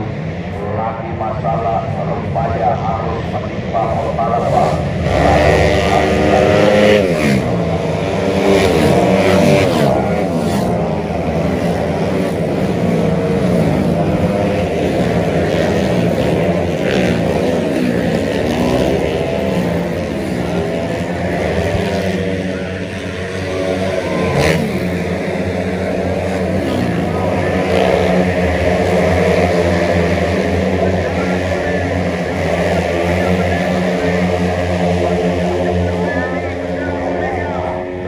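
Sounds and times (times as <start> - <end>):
scooter engines racing: 0.0 - 38.0.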